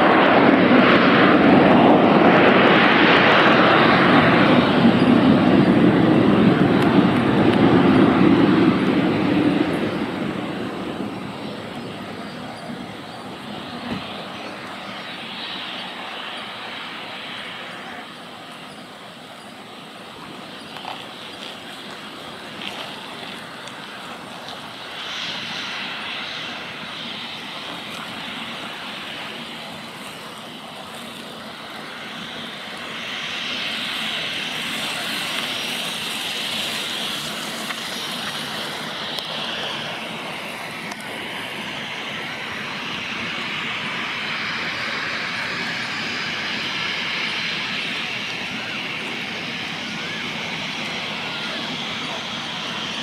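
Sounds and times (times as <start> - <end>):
jet engine with high whine: 0.0 - 53.0.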